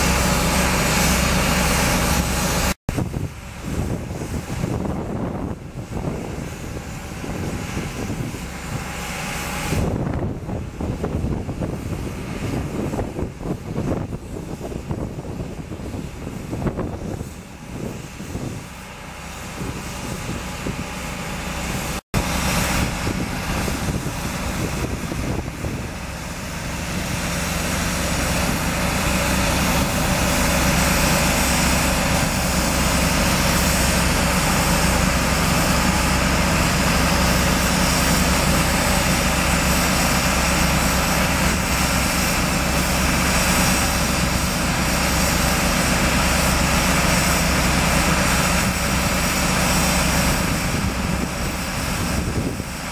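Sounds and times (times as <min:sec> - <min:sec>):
loud rushing noise: 0:00.0 - 0:15.4, 0:16.0 - 0:52.9
engine drone: 0:00.0 - 0:52.9.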